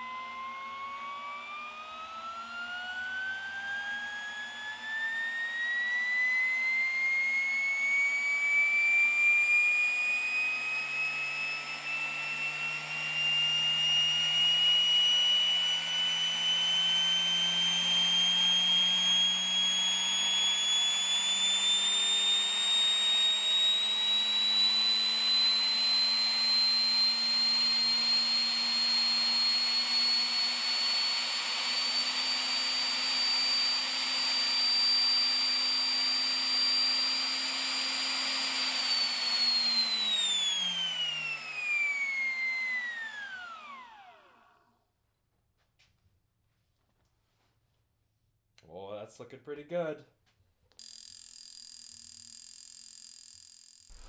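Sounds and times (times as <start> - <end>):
electric blower whining: 0.0 - 44.7, 50.8 - 54.0.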